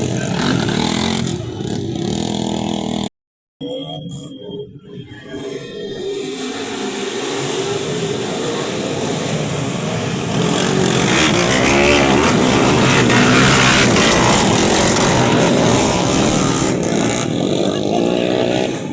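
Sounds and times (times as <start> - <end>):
motorcycle engine revving: 0.0 - 3.1, 5.4 - 18.9.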